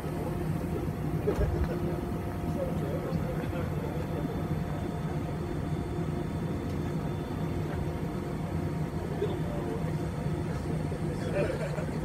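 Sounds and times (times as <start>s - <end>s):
airplane cabin hum: 0.0s - 12.0s.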